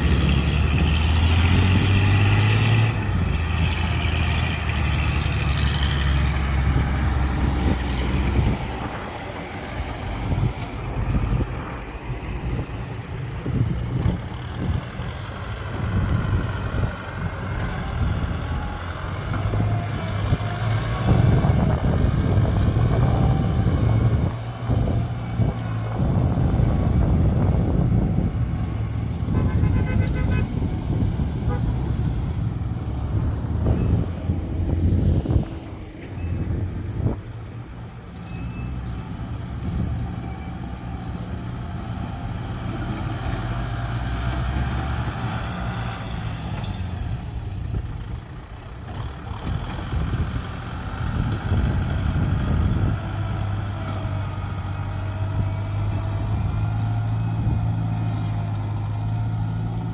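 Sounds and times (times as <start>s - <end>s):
tractor and truck diesel engines: 0.0s - 59.9s.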